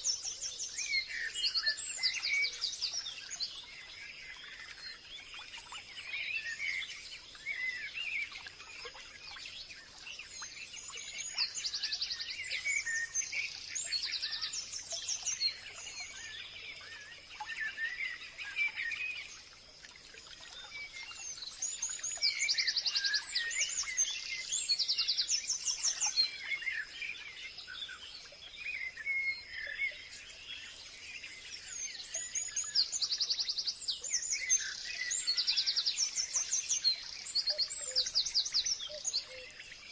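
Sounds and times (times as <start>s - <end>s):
birds singing and chirping: 0.0s - 19.6s, 20.4s - 39.9s.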